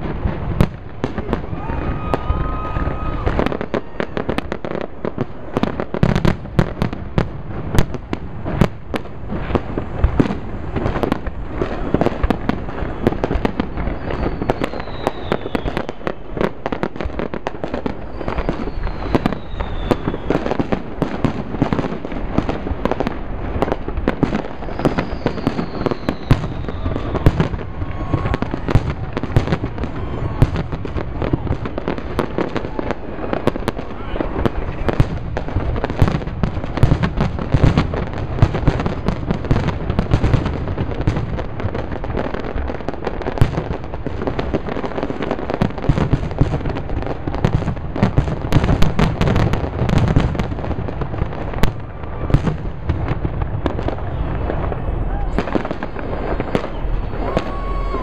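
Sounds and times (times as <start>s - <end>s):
fireworks bangs and crackling: 0.0s - 58.0s
fireworks falling whistles: 0.0s - 58.0s.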